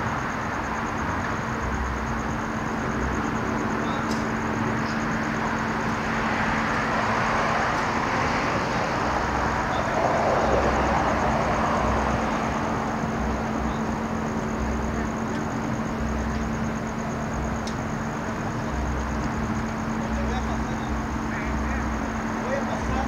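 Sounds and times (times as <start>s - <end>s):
vehicle passing: 2.7s - 23.0s.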